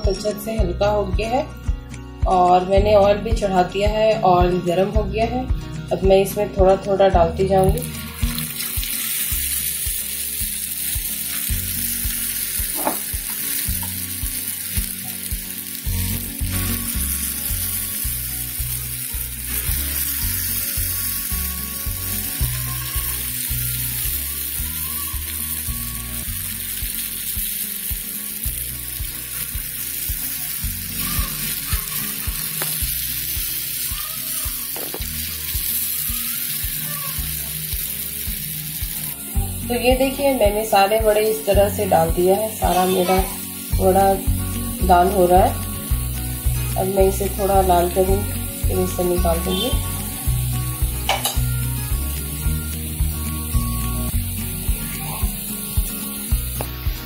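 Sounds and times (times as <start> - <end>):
batter deep-frying in hot oil: 7.6 - 57.0.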